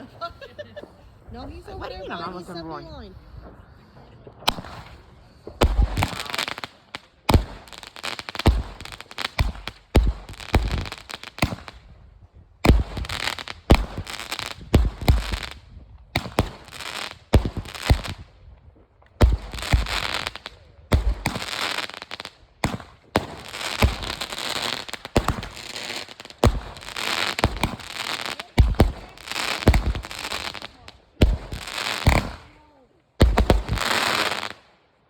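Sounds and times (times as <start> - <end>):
fireworks booming: 0.0 - 34.6.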